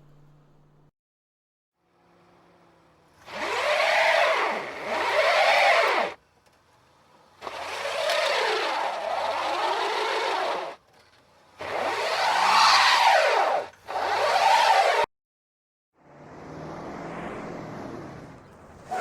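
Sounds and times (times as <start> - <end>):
car tyres screeching: 1.8 - 15.1, 16.0 - 19.0.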